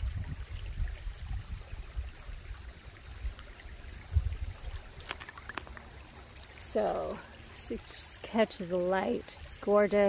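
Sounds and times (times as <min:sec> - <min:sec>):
river water running: 0:00.0 - 0:10.0.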